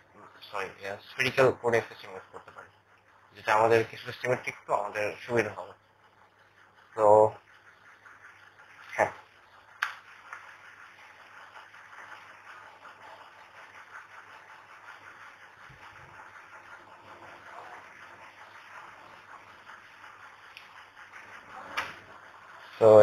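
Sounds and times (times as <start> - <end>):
marker pen scratching on whiteboard: 0.0 - 23.0
steady low hiss: 0.0 - 23.0.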